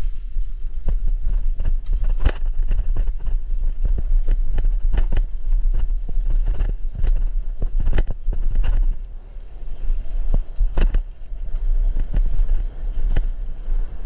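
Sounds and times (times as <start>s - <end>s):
bicycle tyres crunching gravel: 0.0s - 14.0s
wind rumble on microphone: 0.0s - 14.0s.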